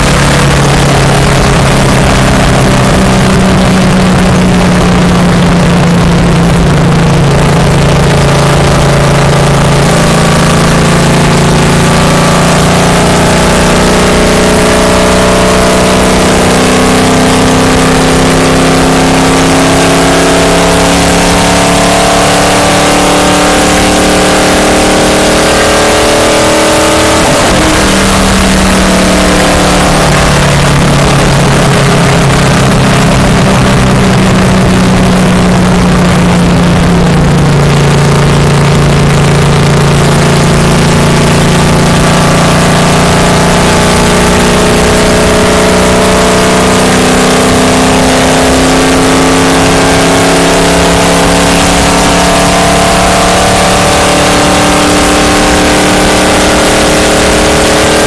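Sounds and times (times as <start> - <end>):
race car engine: 0.0 - 58.0
wind and road noise: 0.0 - 58.0.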